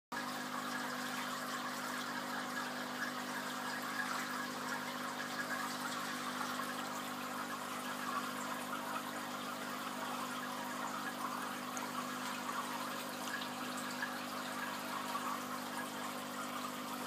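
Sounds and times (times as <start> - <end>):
aquarium water trickling: 0.1 - 17.0.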